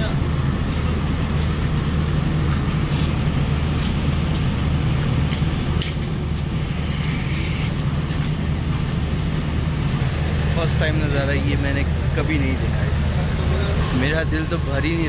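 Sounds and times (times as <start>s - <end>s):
diesel train engine idling: 0.0s - 15.0s.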